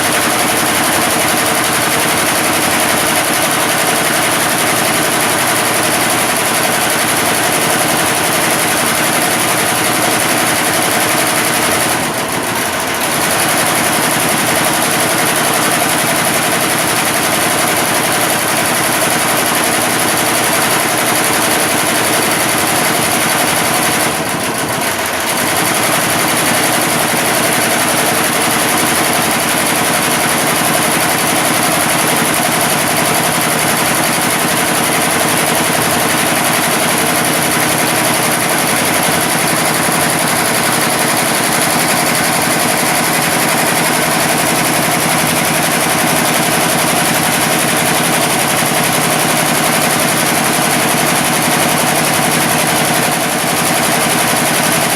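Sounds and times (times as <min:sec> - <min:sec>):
embroidery machine stitching: 0:00.0 - 0:54.9.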